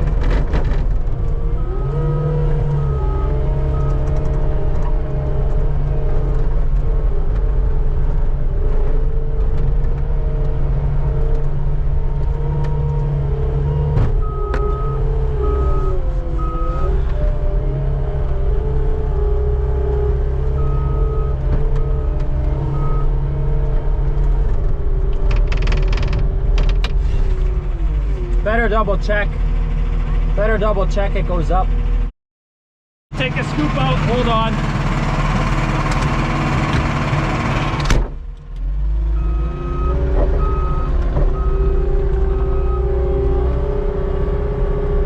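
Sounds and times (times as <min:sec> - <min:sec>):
skid steer engine running: 0:00.0 - 0:26.7, 0:33.2 - 0:37.9, 0:38.7 - 0:45.0.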